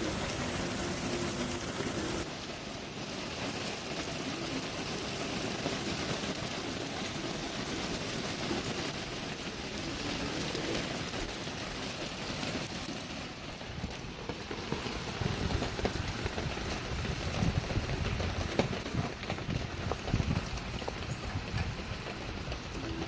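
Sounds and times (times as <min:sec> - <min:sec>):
hailstones ticking and knocking: 0:00.0 - 0:23.0
heavy rain hissing: 0:00.0 - 0:23.0.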